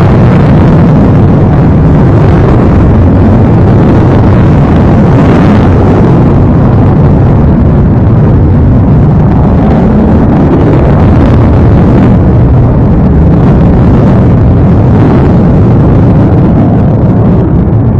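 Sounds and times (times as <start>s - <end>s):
jet engines roaring: 0.0s - 17.9s.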